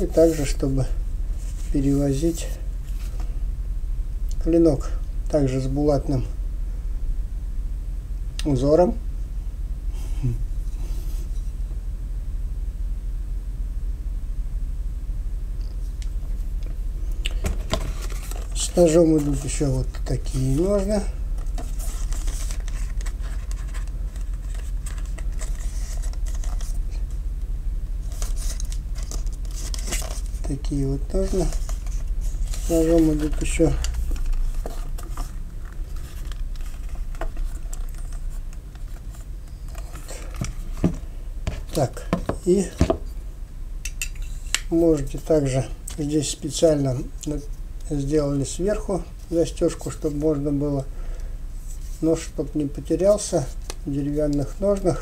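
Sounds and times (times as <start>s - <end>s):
steady low hum: 0.0s - 55.0s
steady low rumble: 0.0s - 55.0s.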